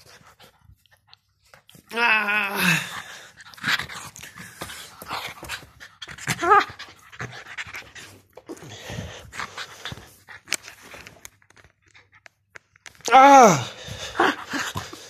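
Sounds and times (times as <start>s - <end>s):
dog panting and snuffling: 0.0s - 1.9s, 2.9s - 12.4s, 13.8s - 15.0s.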